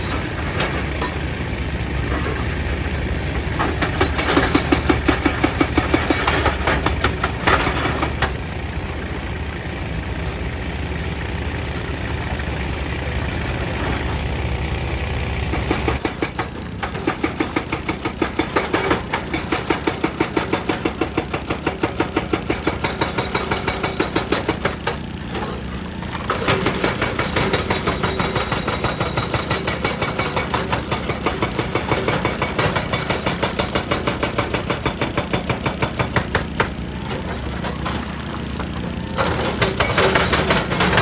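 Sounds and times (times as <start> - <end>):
diesel engine running: 0.0 - 41.0
hydraulic rock breaker hammering rock: 0.0 - 41.0.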